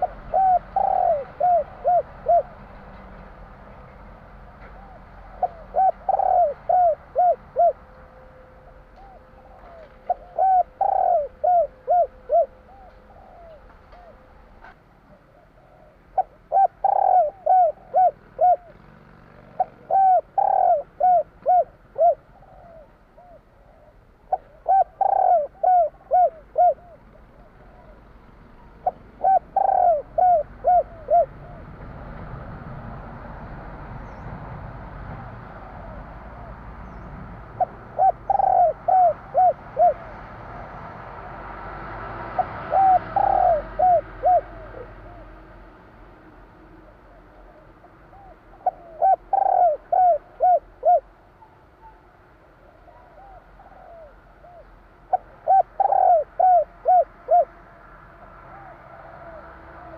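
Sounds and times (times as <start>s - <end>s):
dove cooing: 0.0s - 31.9s, 35.5s - 40.8s, 41.8s - 45.6s, 46.8s - 59.9s.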